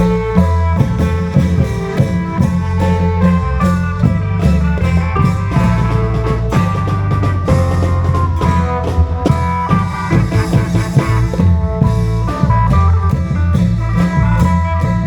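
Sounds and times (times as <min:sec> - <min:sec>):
amplified melody line: 0:00.0 - 0:15.0
drum and percussion beat: 0:00.0 - 0:15.0.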